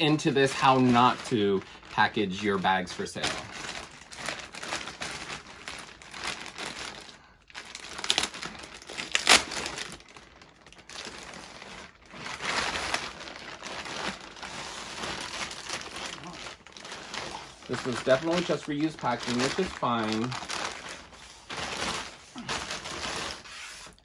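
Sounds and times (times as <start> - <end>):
plastic bag crinkling: 0.0 - 24.0
sharp loud plastic crackle: 0.0 - 24.0.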